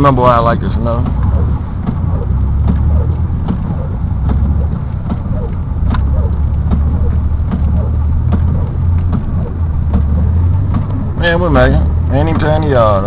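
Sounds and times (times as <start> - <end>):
car engine rumbling in snow: 0.0 - 13.0
knocks and clatters: 0.0 - 13.0.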